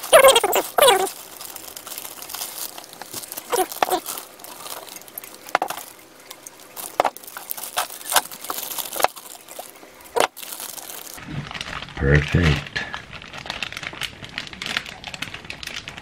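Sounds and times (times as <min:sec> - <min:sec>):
plastic bags rustling: 0:00.0 - 0:16.0
plastic film crackling: 0:00.0 - 0:16.0.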